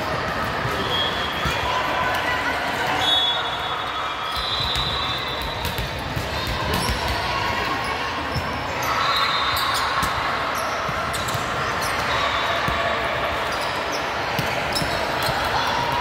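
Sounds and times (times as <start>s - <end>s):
hubbub of voices: 0.0s - 16.0s.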